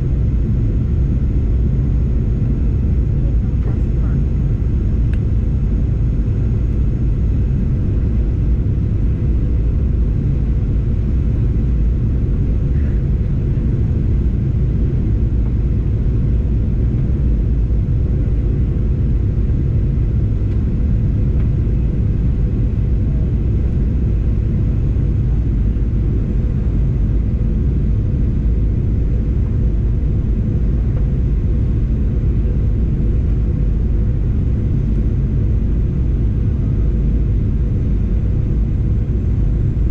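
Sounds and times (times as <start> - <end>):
airplane engine drone: 0.0 - 39.9
faint constant hum: 0.0 - 39.9.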